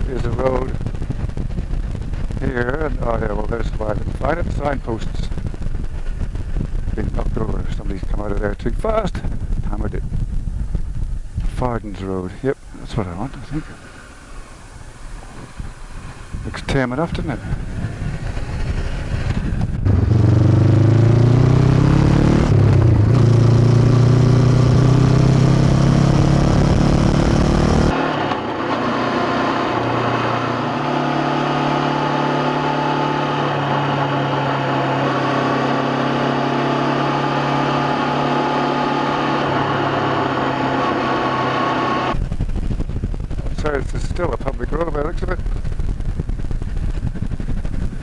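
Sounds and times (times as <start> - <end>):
motorcycle engine accelerating: 0.0 - 8.6, 13.6 - 48.0.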